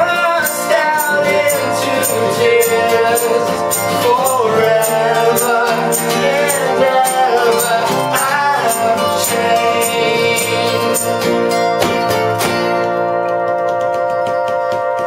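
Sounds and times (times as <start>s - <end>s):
person singing: 0.0s - 12.1s
guitar: 0.0s - 15.0s
percussion beat: 0.0s - 15.0s.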